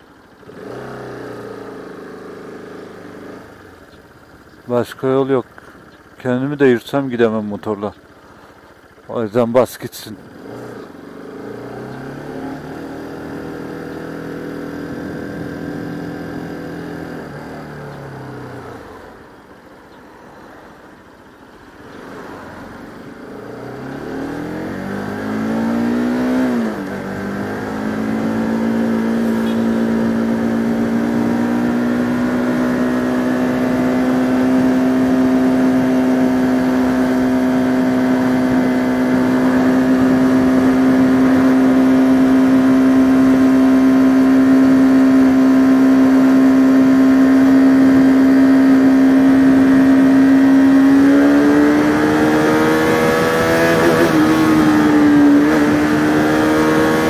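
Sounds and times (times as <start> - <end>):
motorcycle engine accelerating: 0.0 - 19.5, 21.7 - 57.0.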